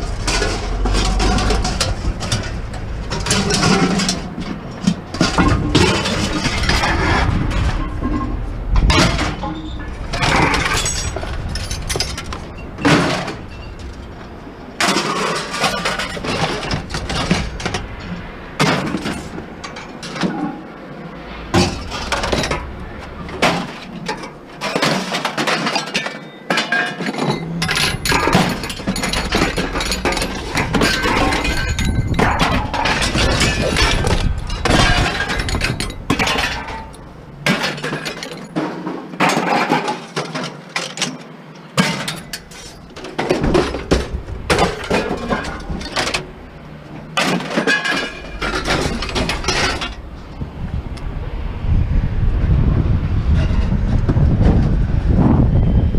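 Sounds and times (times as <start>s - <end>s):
hard objects clanking and clattering: 0.0s - 51.0s.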